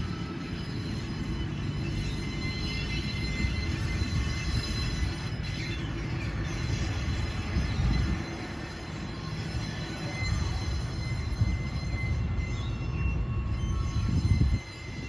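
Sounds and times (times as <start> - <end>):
diesel locomotive rumbling: 0.0 - 15.0
high wheel squeal: 0.0 - 15.0.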